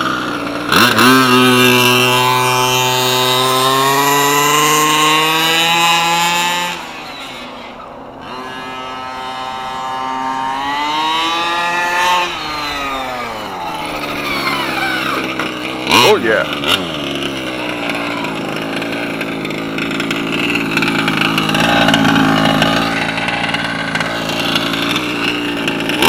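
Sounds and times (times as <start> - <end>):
two-stroke model engine revving: 0.0 - 26.0.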